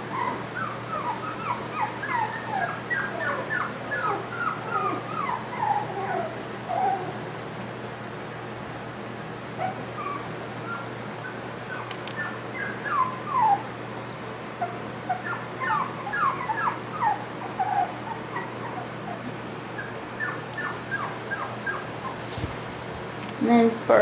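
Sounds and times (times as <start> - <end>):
puppies whimpering and yipping: 0.0 - 7.3, 9.5 - 13.8, 14.5 - 22.3.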